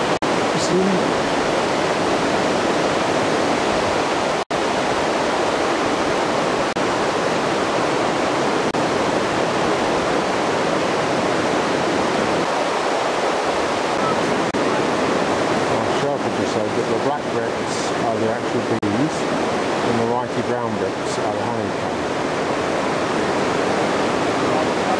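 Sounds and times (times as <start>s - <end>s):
running water rushing: 0.0s - 24.9s.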